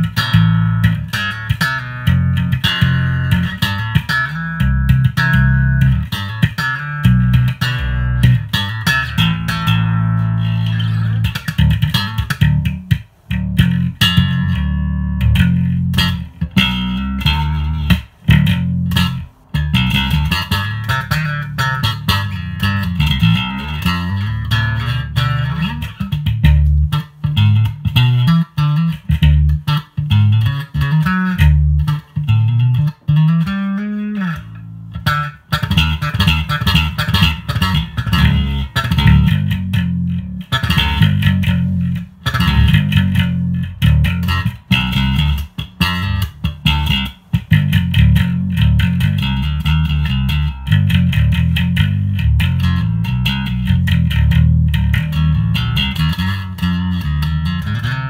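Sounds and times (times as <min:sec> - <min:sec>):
electric bass plucked notes: 0:00.0 - 0:58.0.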